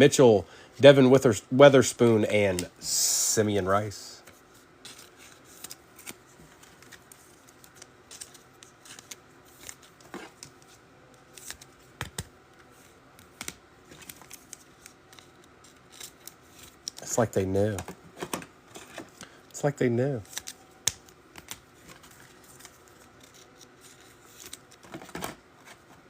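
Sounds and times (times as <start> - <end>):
trading cards rustling and clicking: 4.2 - 26.0.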